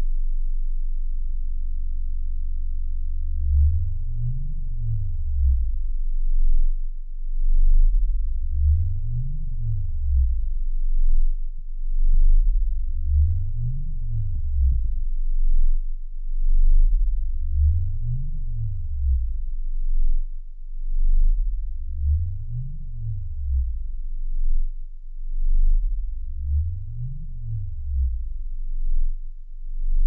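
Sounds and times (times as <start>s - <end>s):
steady low hum: 0.0s - 30.0s
gliding electronic sine tones: 3.4s - 29.2s.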